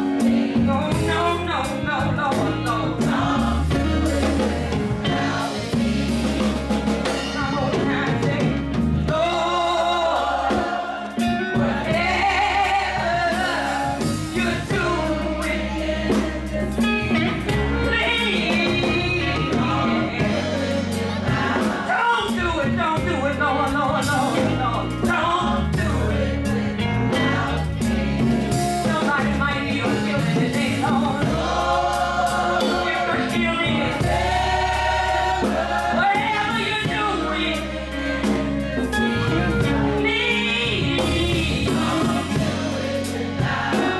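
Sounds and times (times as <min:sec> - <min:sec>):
gospel choir singing: 0:00.0 - 0:43.9.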